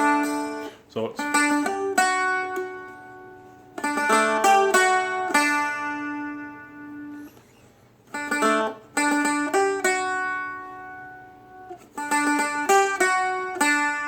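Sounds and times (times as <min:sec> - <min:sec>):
dulcimer notes ringing: 0:00.0 - 0:07.4, 0:08.1 - 0:14.0.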